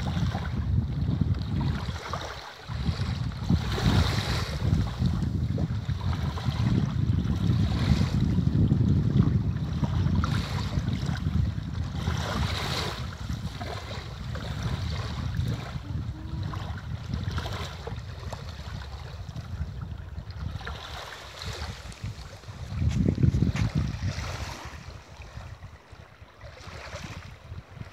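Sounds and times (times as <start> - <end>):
small waves lapping on shore: 0.0 - 27.9
wind rumble on microphone: 0.0 - 27.9.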